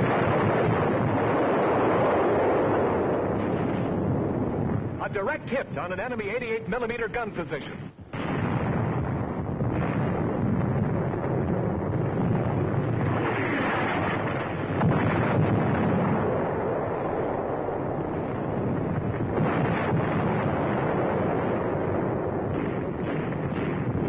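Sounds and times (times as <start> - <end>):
artillery fire and explosions: 0.0 - 24.0.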